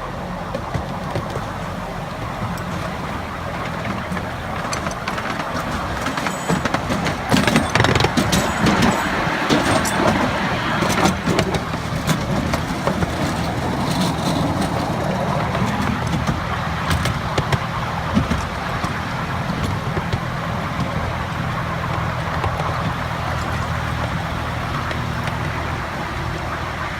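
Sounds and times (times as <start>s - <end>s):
miniature train engine drone: 0.0s - 26.9s
wheels clicking on track: 0.0s - 26.9s.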